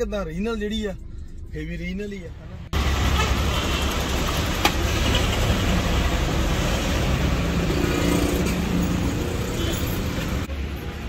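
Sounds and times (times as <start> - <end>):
road traffic noise: 1.0 - 11.0.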